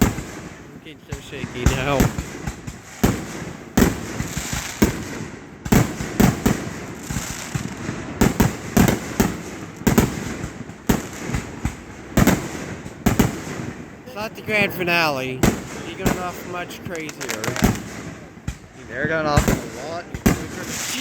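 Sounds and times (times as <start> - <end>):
firework shells bursting: 1.4 - 18.7.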